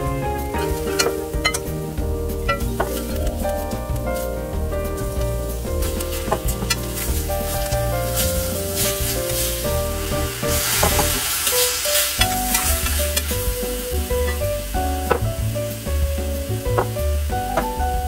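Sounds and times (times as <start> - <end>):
instrumental background music: 0.0 - 18.0
food sizzling in a pan: 0.3 - 18.0.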